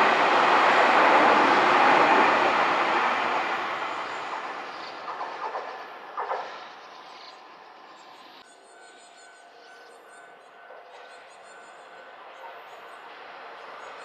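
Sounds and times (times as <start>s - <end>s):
electric train running past: 0.0s - 14.0s.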